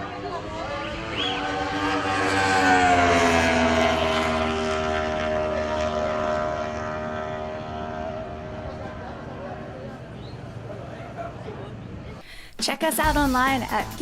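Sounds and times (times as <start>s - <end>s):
racing motorcycle engine: 0.0s - 12.2s.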